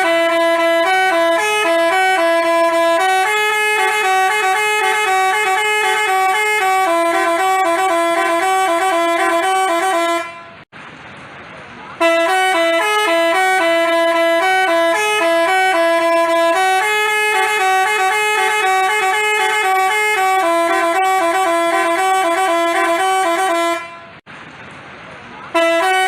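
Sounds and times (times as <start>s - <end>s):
bus horn playing melody: 0.0s - 10.7s, 12.0s - 24.2s, 25.5s - 26.0s.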